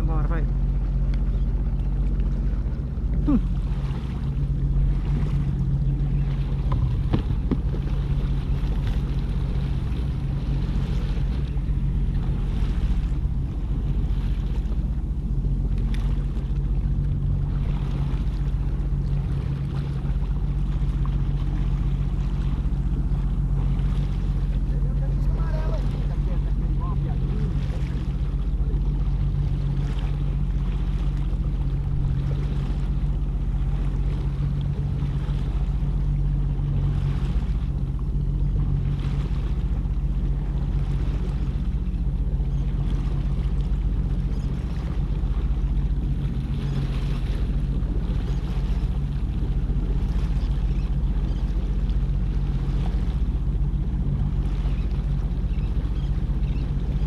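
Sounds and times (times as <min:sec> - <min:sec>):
jet ski engine running: 0:00.0 - 0:57.0
wind and water rushing: 0:00.0 - 0:57.0.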